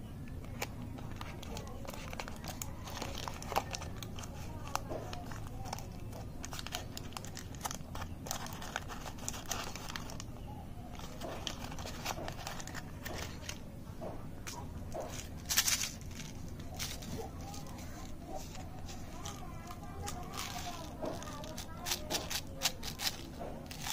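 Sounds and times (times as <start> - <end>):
chocolate wrapper crinkling: 0.3 - 13.7, 14.4 - 23.9.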